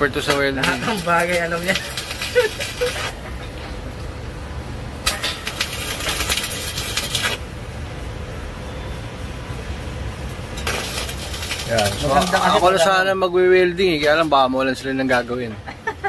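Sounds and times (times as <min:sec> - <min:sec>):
welding arc crackling and sizzling: 0:00.0 - 0:15.4.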